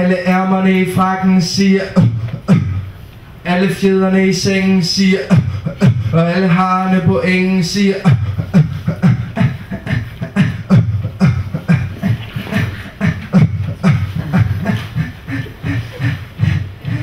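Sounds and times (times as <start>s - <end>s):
man beatboxing: 0.0s - 17.0s.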